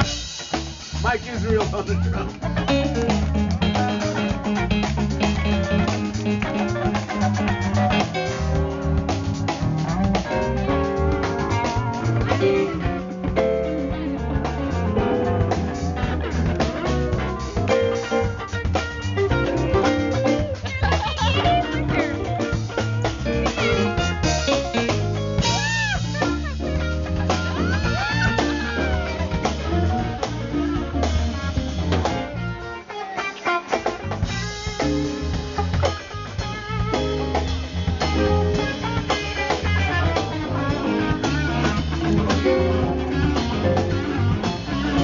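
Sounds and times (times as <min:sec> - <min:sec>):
drums with steady beat: 0:00.0 - 0:45.0
electric guitar: 0:00.0 - 0:45.0
live band playing: 0:00.0 - 0:45.0.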